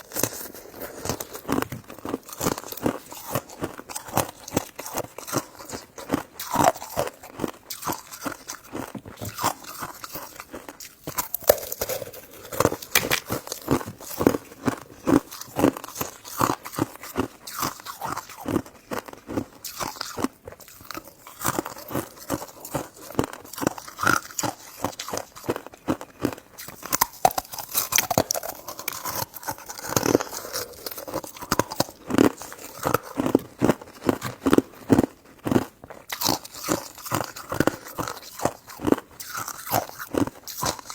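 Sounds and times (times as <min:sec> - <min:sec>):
chewing with mouth clicks: 0:00.0 - 0:40.9.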